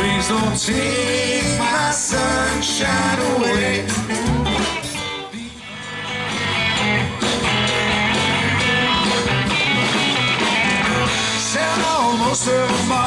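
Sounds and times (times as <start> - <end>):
live band guitar instrumental: 0.0 - 13.0.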